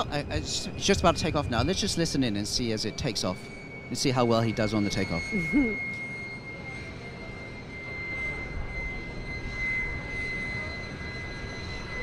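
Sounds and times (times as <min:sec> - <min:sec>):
jet engine low rumble: 0:00.0 - 0:12.0
jet engines whining: 0:00.0 - 0:12.0.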